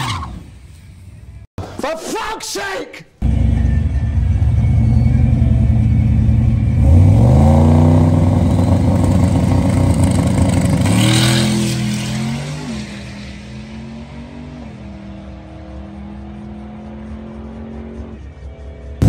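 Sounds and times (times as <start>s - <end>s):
drag racing engine accelerating: 3.2s - 19.0s.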